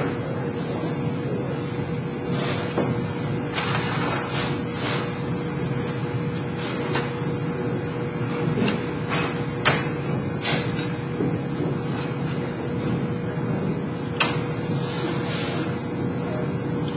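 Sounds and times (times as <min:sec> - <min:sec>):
steady hum: 0:00.0 - 0:16.9.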